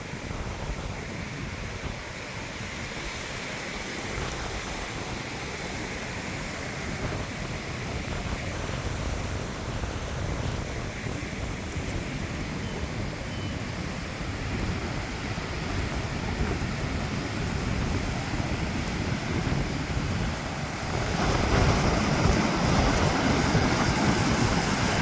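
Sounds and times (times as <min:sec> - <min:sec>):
ocean surf washing on shore: 0:00.0 - 0:25.0
wind rumbling on microphone: 0:00.0 - 0:25.0.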